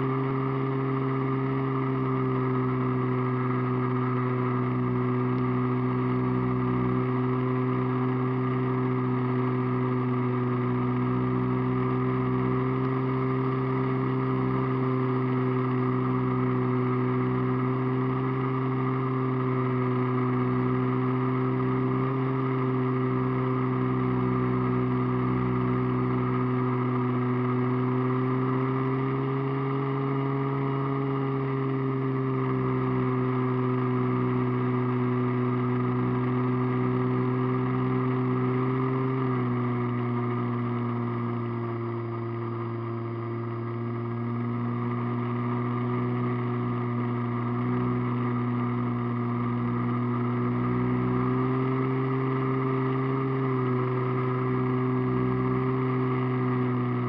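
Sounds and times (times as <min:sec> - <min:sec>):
model plane motor droning: 0:00.0 - 0:57.0.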